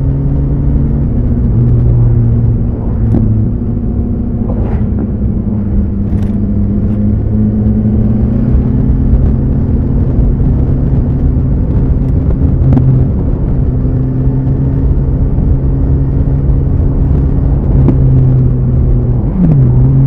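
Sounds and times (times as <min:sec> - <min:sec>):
motorcycle engine cruising: 0:00.0 - 0:20.0
wind rumble on microphone: 0:00.0 - 0:20.0.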